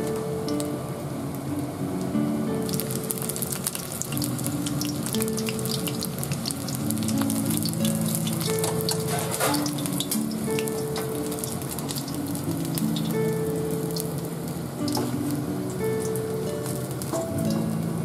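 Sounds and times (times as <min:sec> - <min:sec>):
oil sizzling with crackles and pops: 0:00.0 - 0:18.0.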